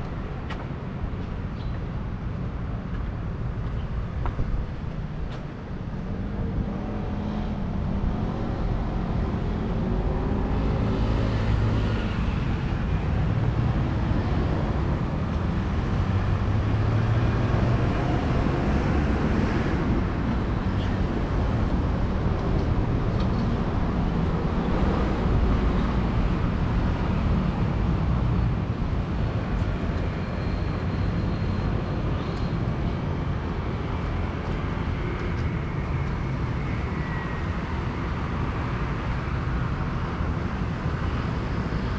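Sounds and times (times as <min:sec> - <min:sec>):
traffic rumble: 0:00.0 - 0:41.9.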